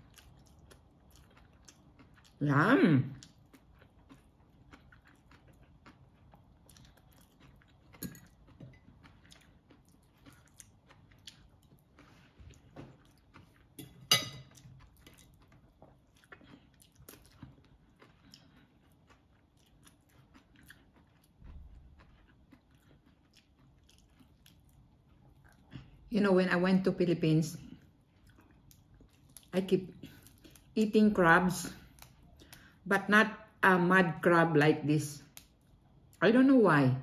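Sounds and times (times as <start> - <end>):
chewing with small cracks: 0.0 - 26.1, 27.6 - 30.8, 31.7 - 32.8, 35.2 - 36.2.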